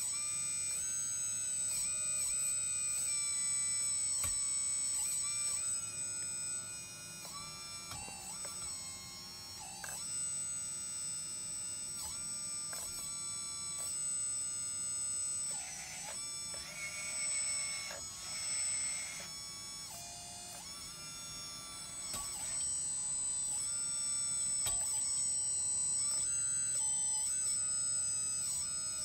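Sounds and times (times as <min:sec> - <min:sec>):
pump motor whining: 0:00.0 - 0:29.0.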